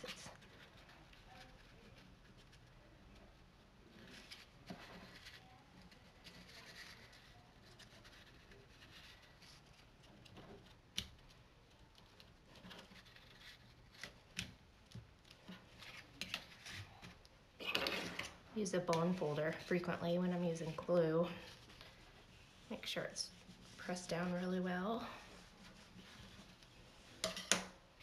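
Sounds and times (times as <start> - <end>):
cardstock rustling and rubbing: 0.0 - 27.3.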